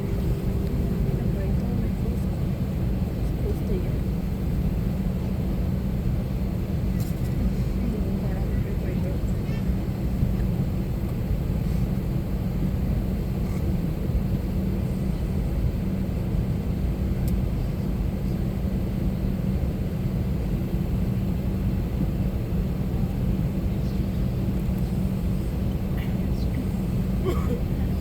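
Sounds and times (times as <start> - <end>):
aircraft cabin hum: 0.0 - 28.0.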